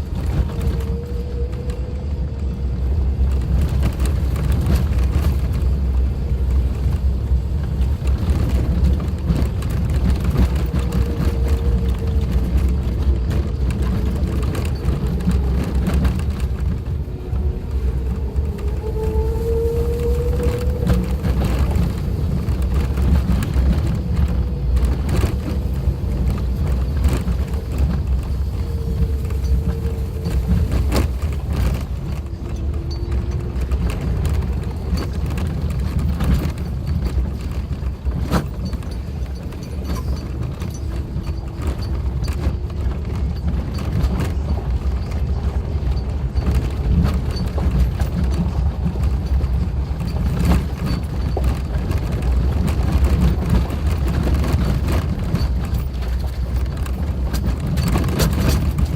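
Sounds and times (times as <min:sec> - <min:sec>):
engine and tyres rumbling: 0:00.0 - 0:58.9.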